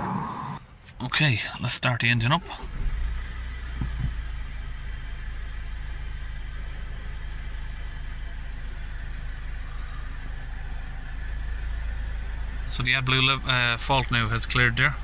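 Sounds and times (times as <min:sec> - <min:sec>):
diesel engine idling: 0:00.1 - 0:15.0.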